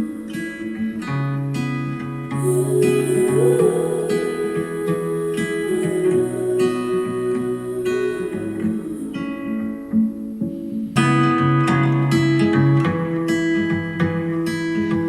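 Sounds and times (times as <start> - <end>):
acoustic guitar instrumental music: 0.0 - 15.0.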